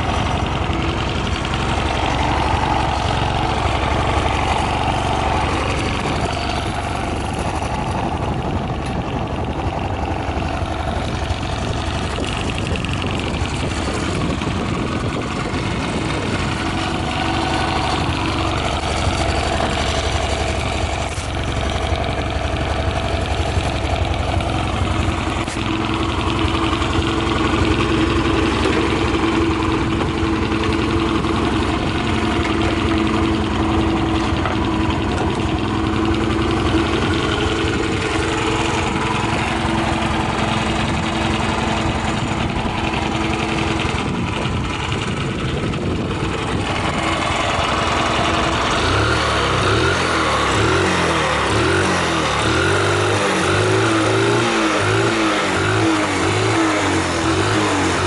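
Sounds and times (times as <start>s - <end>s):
small engine idling: 0.0s - 58.0s.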